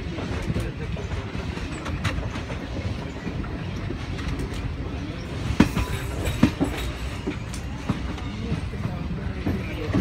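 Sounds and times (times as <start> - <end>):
train wheel rumble: 0.0 - 10.0
wheels clunking over rail joints: 0.0 - 10.0.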